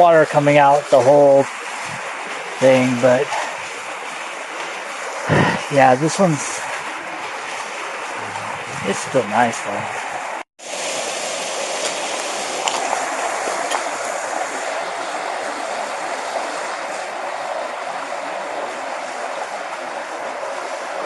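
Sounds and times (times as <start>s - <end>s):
waterfall rushing and splashing: 0.0s - 21.0s.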